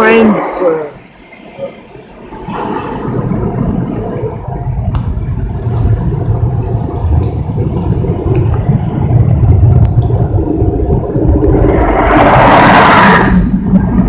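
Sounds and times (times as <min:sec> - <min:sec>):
car wash low rumble: 0:00.0 - 0:14.0.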